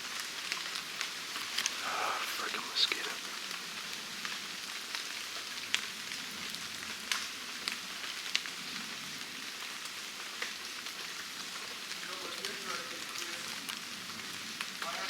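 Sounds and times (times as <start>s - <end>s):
rain falling on foliage: 0.0s - 15.0s.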